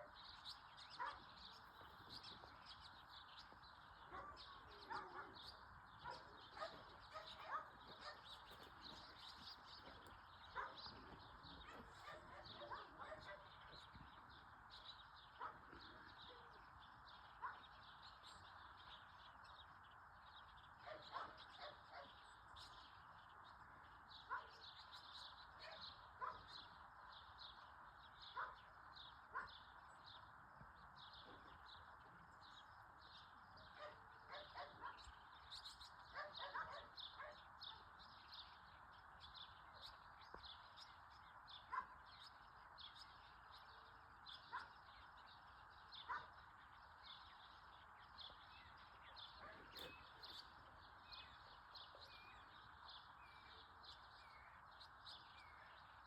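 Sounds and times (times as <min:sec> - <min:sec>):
distant bark-like calls: 0:00.0 - 0:18.7, 0:28.0 - 0:30.2, 0:31.0 - 0:38.4, 0:39.3 - 0:56.0.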